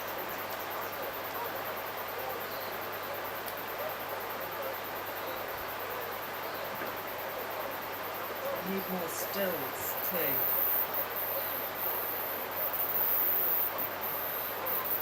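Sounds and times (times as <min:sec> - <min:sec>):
rushing bush background noise: 0:00.0 - 0:15.0.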